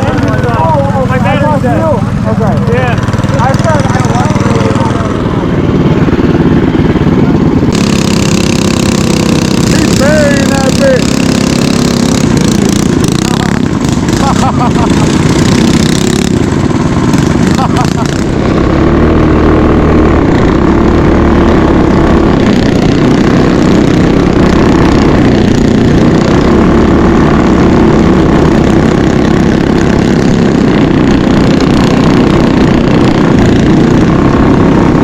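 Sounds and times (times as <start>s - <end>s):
mini bike engine running: 0.0s - 35.0s.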